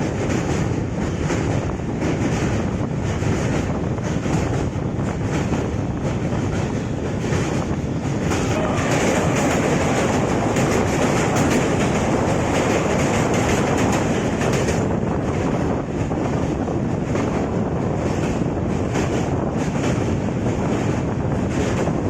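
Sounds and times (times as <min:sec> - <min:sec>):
fast dense wheel clatter: 0:00.0 - 0:22.0
train wheels rumbling on rail: 0:00.0 - 0:22.0.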